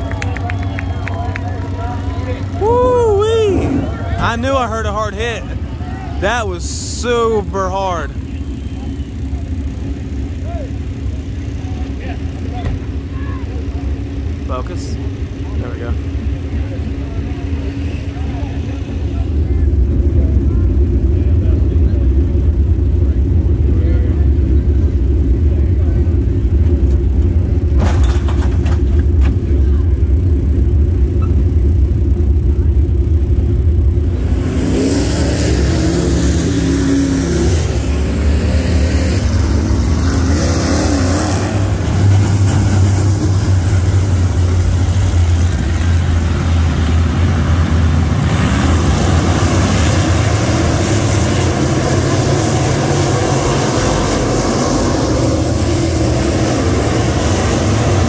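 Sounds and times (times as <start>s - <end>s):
race car engines droning: 0.0s - 58.0s.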